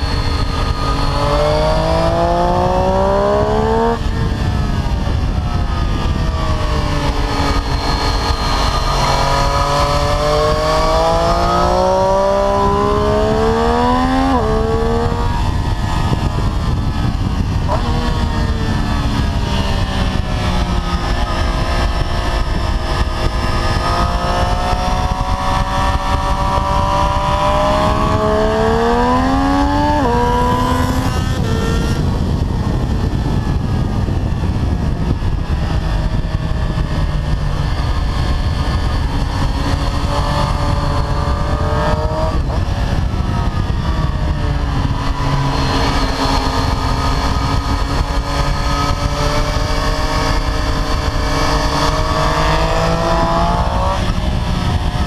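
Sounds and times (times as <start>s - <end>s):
motorcycle engine revving: 0.0s - 55.0s
wind rushing on microphone: 0.0s - 55.0s.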